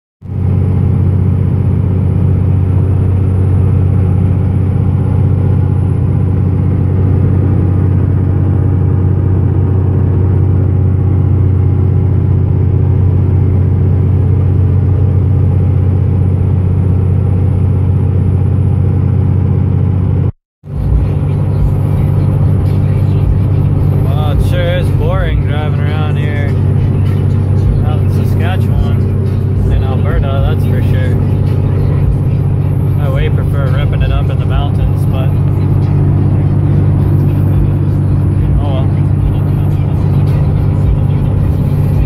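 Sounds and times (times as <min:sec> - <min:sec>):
diesel engine low drone: 0:00.2 - 0:42.0
tyre and road noise: 0:00.2 - 0:42.0.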